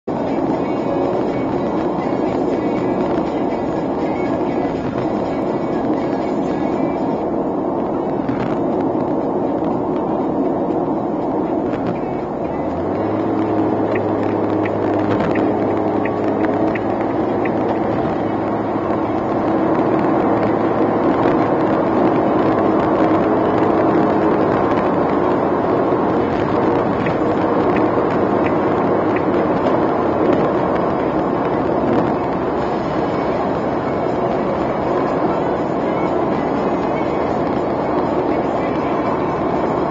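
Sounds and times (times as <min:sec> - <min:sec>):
car engine hum: 0:00.0 - 0:39.9
tyre and wind noise: 0:00.1 - 0:39.9.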